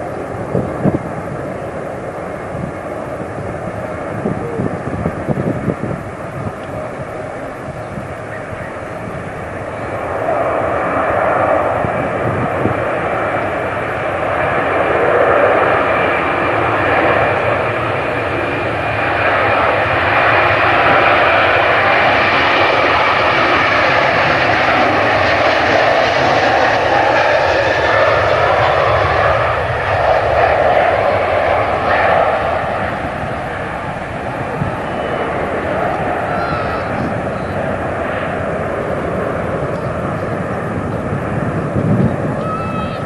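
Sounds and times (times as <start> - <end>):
airliner engines whining: 0.0 - 43.0.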